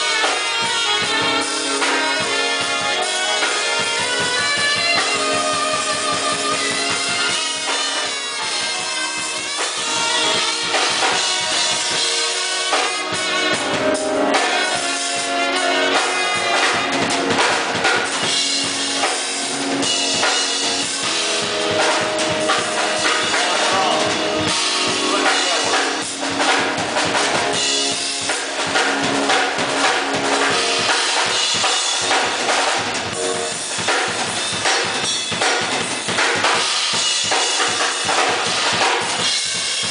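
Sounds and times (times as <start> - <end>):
band music: 0.0 - 39.9
drum kit beat: 0.0 - 39.9.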